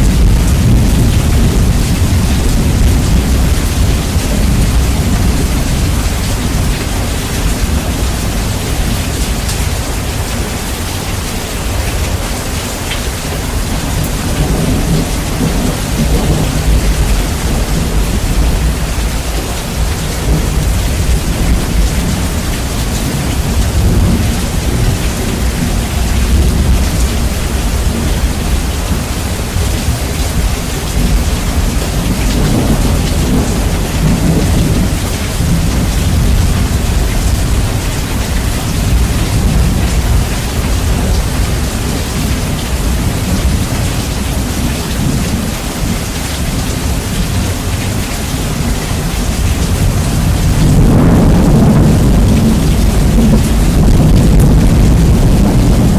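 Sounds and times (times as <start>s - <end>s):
heavy rain: 0.0s - 55.9s
rolling thunder: 0.0s - 55.9s.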